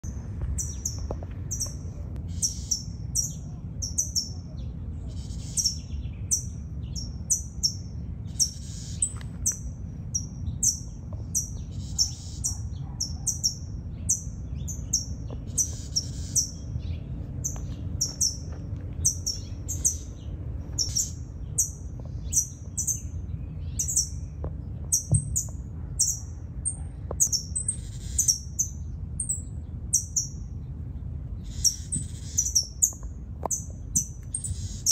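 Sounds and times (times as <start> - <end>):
small bird chirping: 0.0 - 30.6, 31.4 - 34.9.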